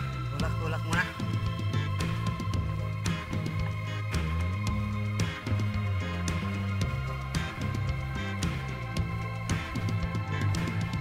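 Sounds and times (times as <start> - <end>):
background music with beat: 0.0 - 11.0
sustained bass line: 0.0 - 11.0.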